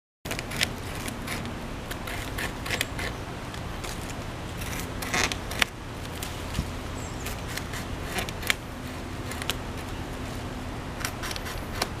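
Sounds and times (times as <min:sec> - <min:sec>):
beaver gnawing wood: 0:00.3 - 0:06.6, 0:07.2 - 0:10.1, 0:10.9 - 0:12.0.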